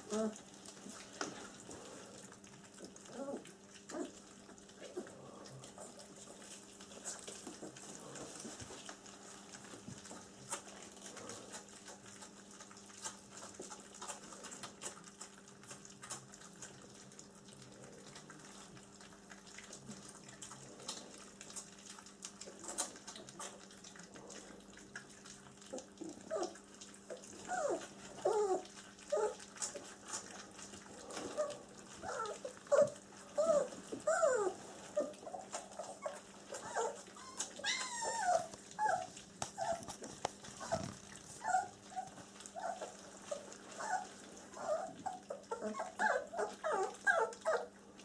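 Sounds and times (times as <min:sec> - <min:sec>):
faint steady hum: 0:00.0 - 0:48.0
puppies lapping food: 0:00.0 - 0:48.0.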